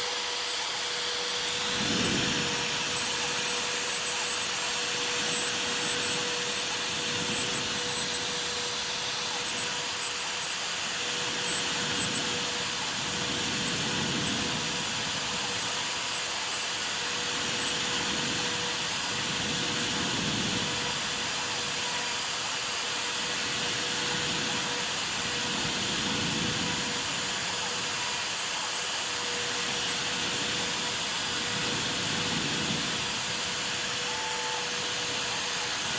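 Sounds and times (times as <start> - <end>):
router cutting noise: 0.0 - 35.9
router spindle whine: 0.0 - 35.9.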